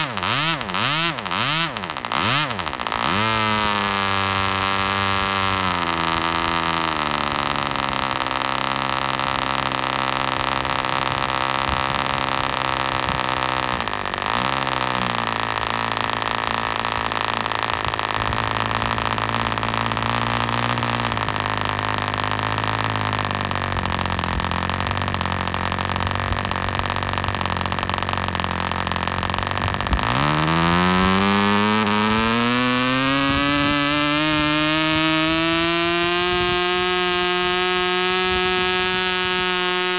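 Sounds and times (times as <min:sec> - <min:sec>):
model diesel engine running: 0:00.0 - 0:39.9.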